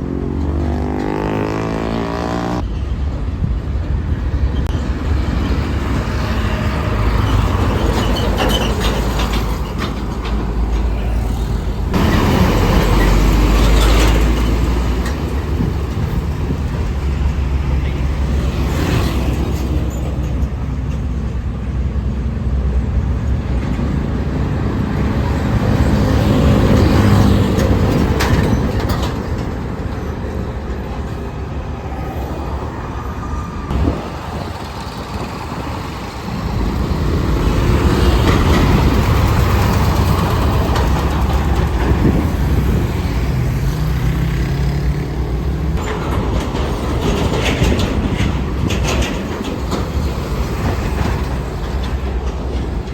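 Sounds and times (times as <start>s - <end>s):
heavy vehicles passing: 0.0s - 52.9s.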